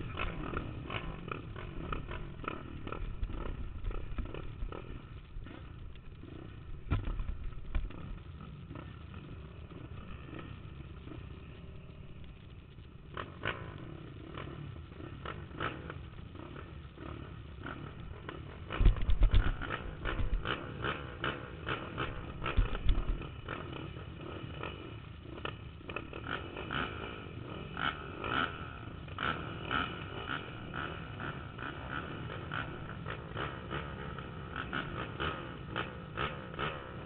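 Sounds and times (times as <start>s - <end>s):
quad engine running hard: 0.0s - 37.0s
rough track rumble: 0.0s - 37.0s
wind: 0.0s - 37.0s.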